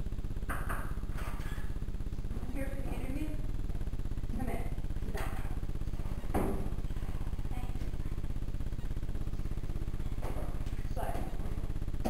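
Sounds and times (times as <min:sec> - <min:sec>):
fast ticking buzz: 0:01.7 - 0:12.0.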